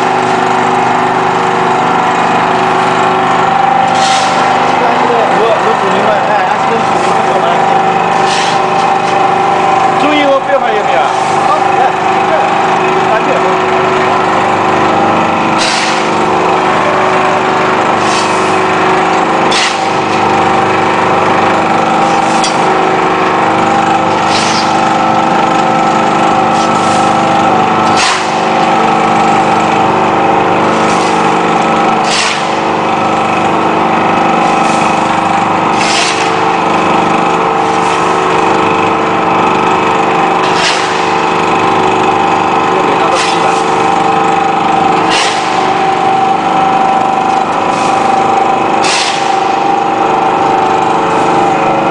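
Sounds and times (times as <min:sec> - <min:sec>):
baling press mechanical hum: 0:00.0 - 0:51.9.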